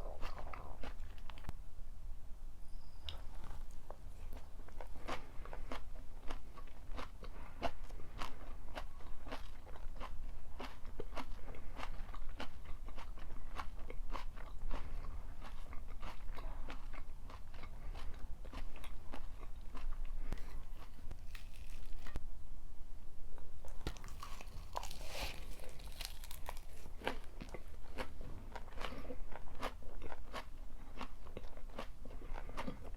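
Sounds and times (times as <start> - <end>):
chewing and crunching food: 0.0 - 1.5, 3.1 - 22.2, 23.4 - 32.9.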